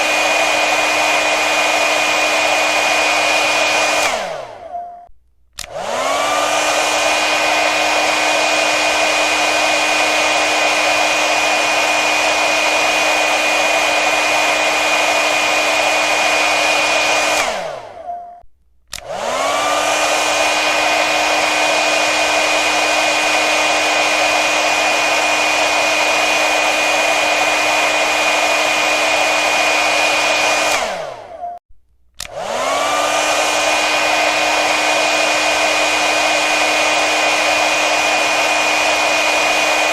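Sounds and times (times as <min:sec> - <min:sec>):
hair dryer running: 0:00.0 - 0:04.8, 0:05.6 - 0:18.1, 0:18.9 - 0:31.5, 0:32.2 - 0:39.9.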